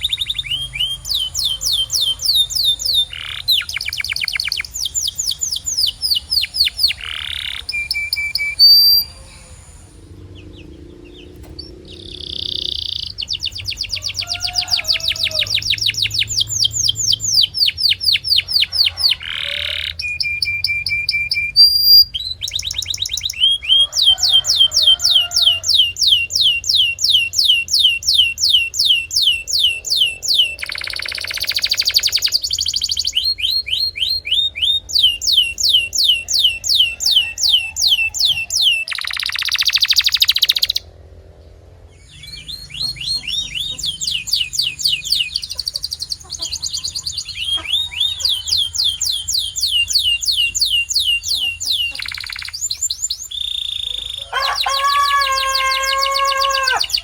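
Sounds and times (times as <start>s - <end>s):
canary singing trills: 0.0s - 41.0s, 41.9s - 57.0s.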